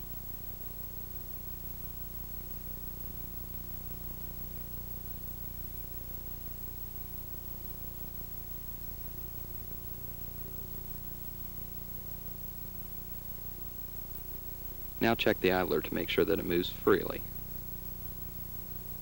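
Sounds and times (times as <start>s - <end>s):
low electrical hum: 0.0s - 19.0s
tape hiss: 0.0s - 19.0s.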